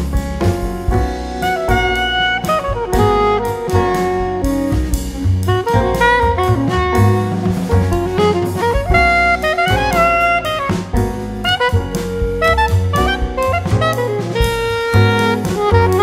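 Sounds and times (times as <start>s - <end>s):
instrumental background music: 0.0s - 16.0s.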